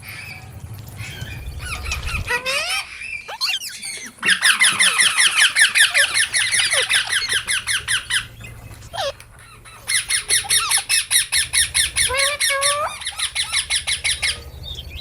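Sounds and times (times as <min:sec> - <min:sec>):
parrots calling: 0:00.0 - 0:15.0.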